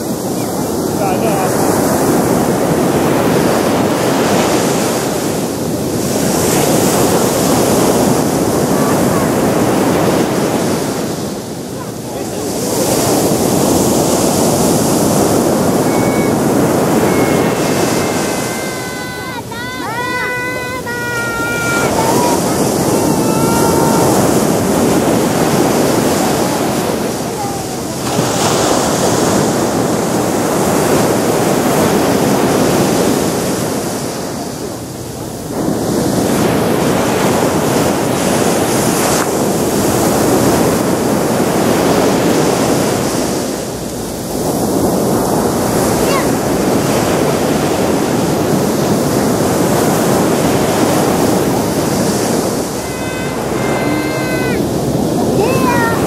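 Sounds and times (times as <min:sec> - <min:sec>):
surf waves breaking on beach: 0:00.0 - 0:56.0.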